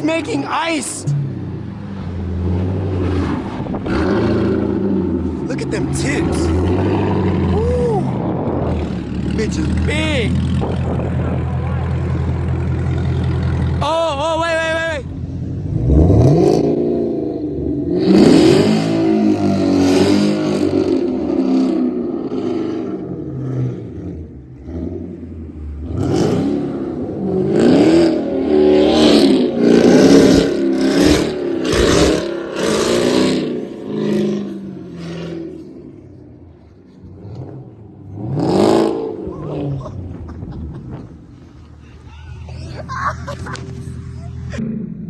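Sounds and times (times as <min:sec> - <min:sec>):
car engine revving hard: 0:01.0 - 0:13.4, 0:15.3 - 0:40.3.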